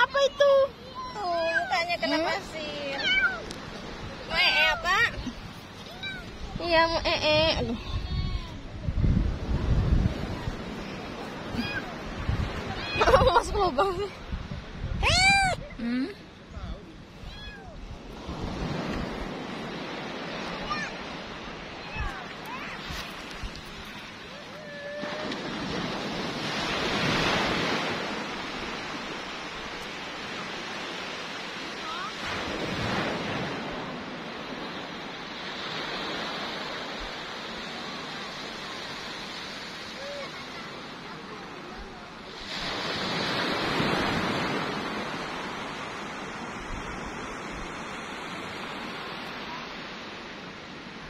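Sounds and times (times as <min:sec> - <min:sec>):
sea waves washing onto beach: 0:00.0 - 0:51.0.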